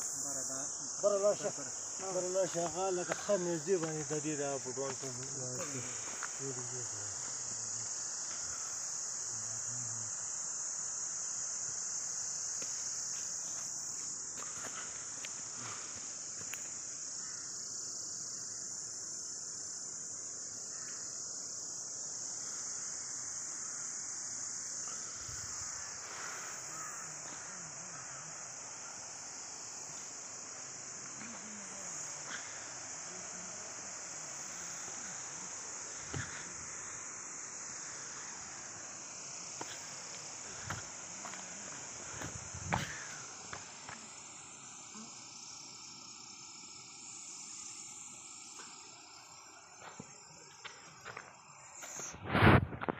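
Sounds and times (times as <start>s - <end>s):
insect chorus buzzing: 0.0s - 52.9s.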